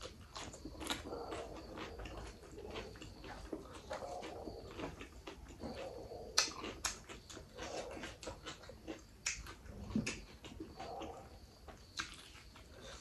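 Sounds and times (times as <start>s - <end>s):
lip and tongue clicks: 0.0s - 11.3s
wet chewing: 0.0s - 13.0s.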